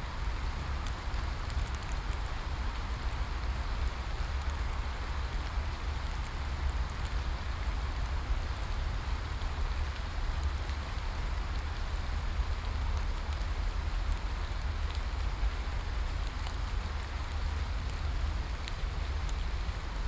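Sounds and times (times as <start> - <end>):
rain drop ticks: 0.1 - 20.0.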